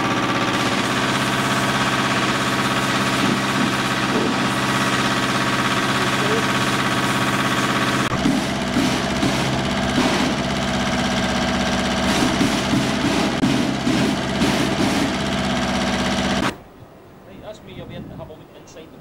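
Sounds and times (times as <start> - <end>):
water gushing and splashing: 0.0 - 16.6
engine running steadily: 0.0 - 17.9.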